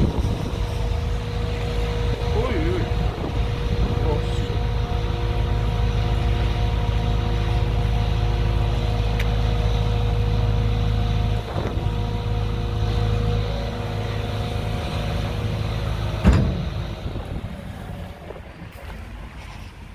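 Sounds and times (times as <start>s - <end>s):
diesel excavator engine running: 0.0s - 19.9s.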